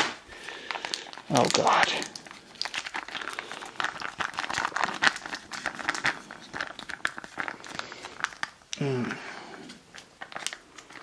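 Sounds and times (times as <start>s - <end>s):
foil pouch crinkling: 0.0s - 11.0s.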